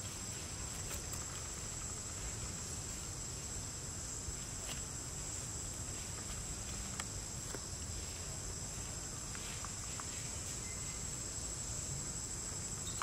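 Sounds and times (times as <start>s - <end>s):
crackles of dry leaf litter: 0.0s - 13.0s
high-pitched insect chorus: 0.0s - 13.0s.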